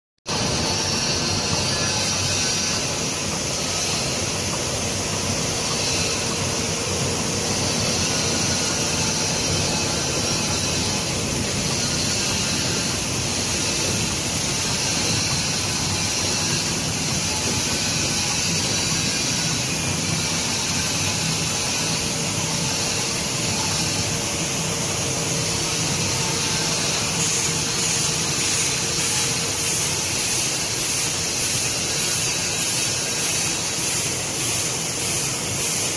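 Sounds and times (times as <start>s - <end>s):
packing machine whirring: 0.3s - 35.9s.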